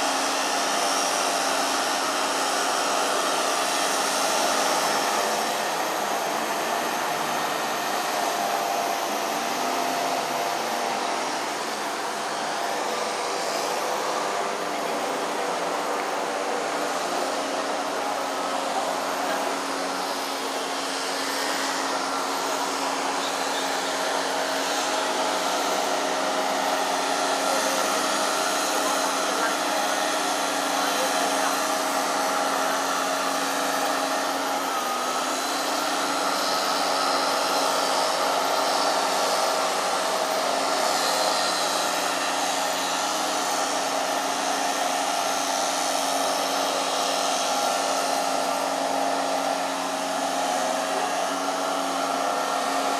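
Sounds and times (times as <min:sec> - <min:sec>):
machine motor whine: 0:00.0 - 0:52.9.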